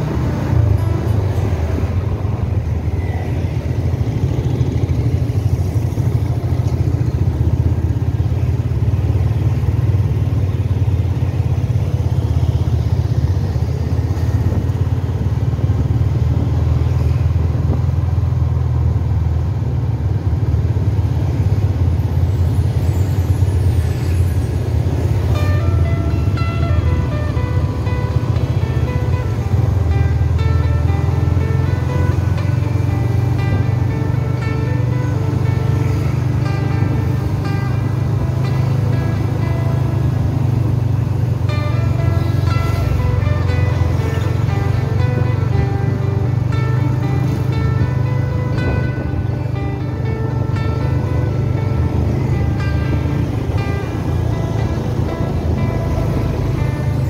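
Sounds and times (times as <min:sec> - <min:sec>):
motorcycle engine low rumble: 0:00.0 - 0:57.0
traffic of motorcycles and cars: 0:00.0 - 0:57.0.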